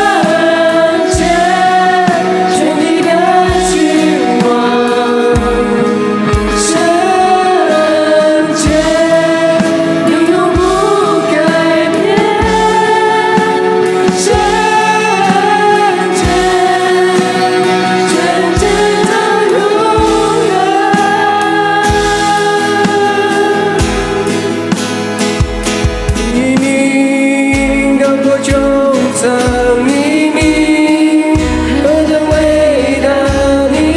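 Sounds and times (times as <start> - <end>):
voices singing over a band: 0.0 - 33.9.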